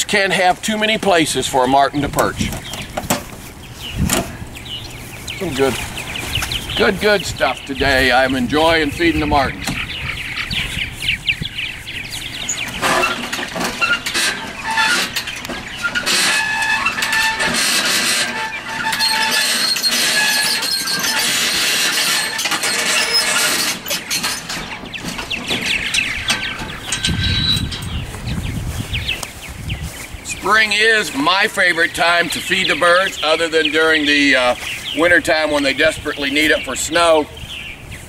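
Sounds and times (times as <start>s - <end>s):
birds chirping and chattering: 0.0s - 38.0s.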